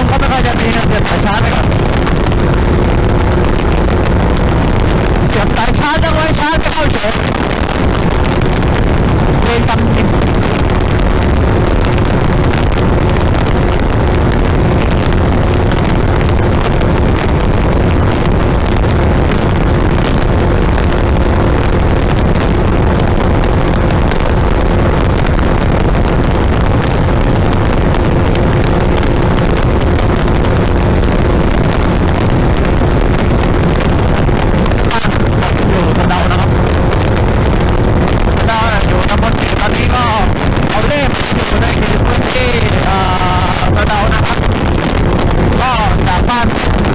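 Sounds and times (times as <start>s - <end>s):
motorcycle engine droning: 0.0s - 46.9s
wind rushing over microphone: 0.0s - 46.9s.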